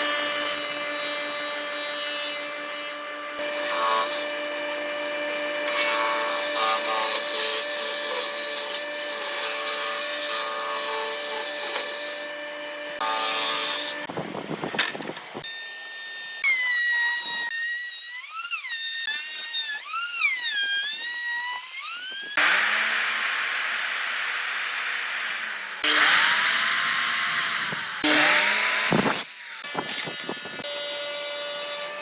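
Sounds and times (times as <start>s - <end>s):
power tool cutting wood: 0.0s - 32.0s.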